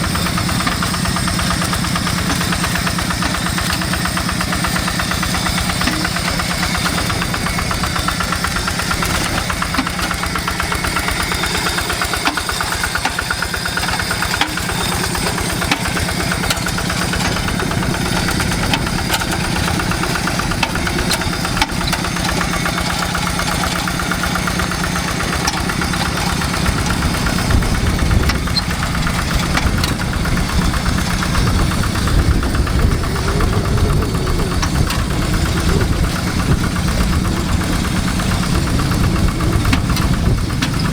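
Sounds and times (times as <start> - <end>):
diesel tractor engine knocking: 0.0 - 40.9.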